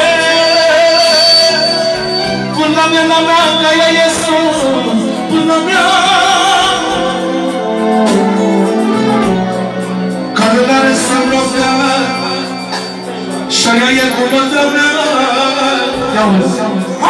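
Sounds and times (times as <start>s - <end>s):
man singing ornamented vocals: 0.0s - 9.4s, 10.4s - 17.0s
instrumental backing music: 0.0s - 17.0s.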